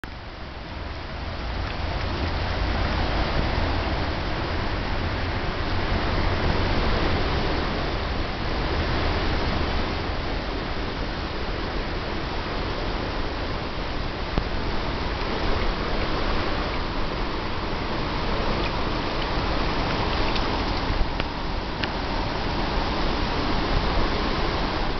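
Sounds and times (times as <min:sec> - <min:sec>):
stream rushing over stones: 0:00.0 - 0:24.9.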